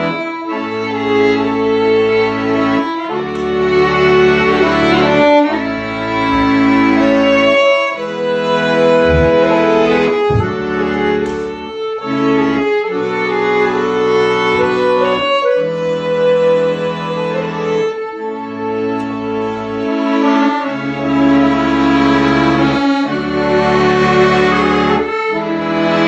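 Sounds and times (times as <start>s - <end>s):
low cello: 0.0s - 26.0s
violin: 0.0s - 26.0s.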